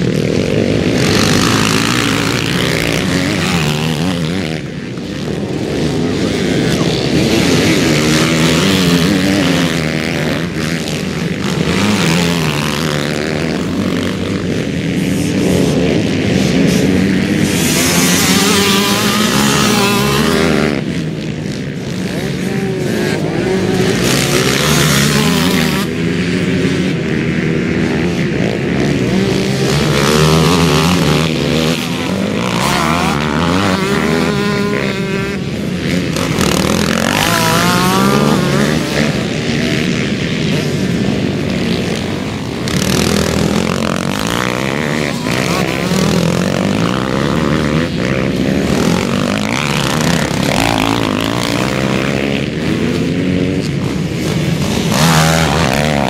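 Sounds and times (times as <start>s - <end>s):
dirt bike engines revving past: 0.0s - 56.0s.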